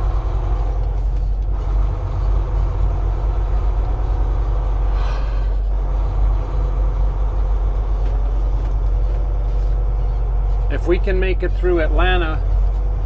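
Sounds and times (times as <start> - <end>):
truck engine and road noise: 0.0 - 13.0.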